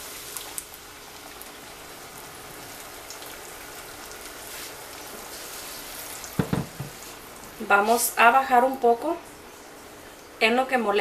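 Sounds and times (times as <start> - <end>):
salsa sizzling in hot oil: 0.0 - 10.5.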